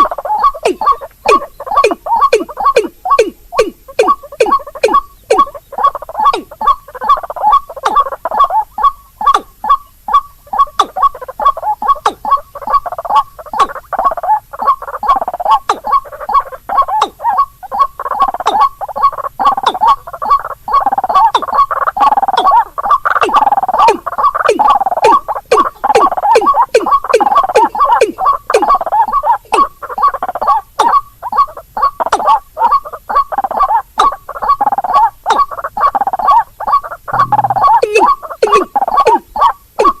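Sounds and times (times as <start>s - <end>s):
harsh bird calls: 0.0s - 40.0s.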